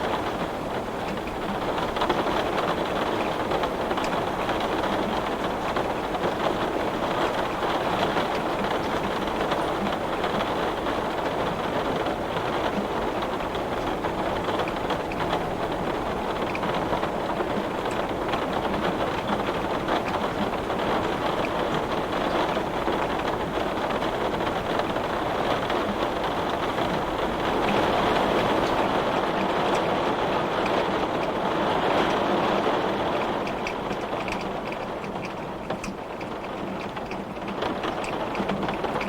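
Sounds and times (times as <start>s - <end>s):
heavy rain on window glass: 0.0s - 39.0s.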